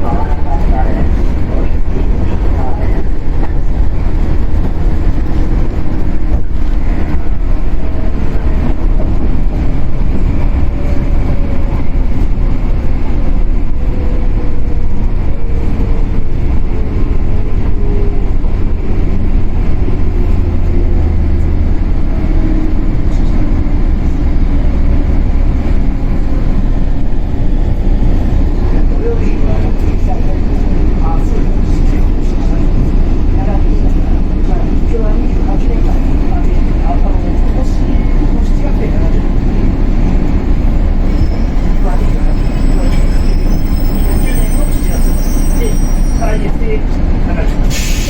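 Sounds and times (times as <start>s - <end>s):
electric train rumbling: 0.0s - 48.0s.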